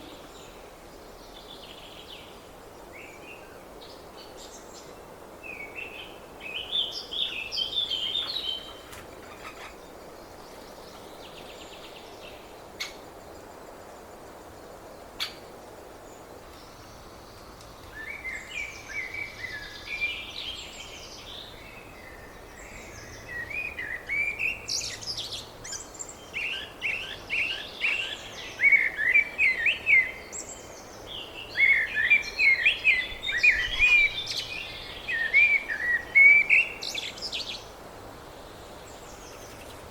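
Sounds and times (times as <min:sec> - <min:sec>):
outdoor background noise: 0:00.0 - 0:39.9.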